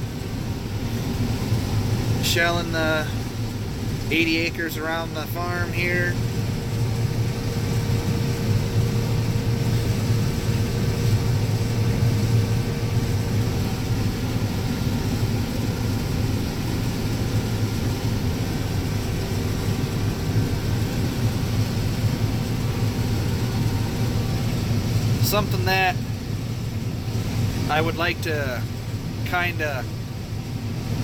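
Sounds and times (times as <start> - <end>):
combine harvester droning: 0.0 - 31.0.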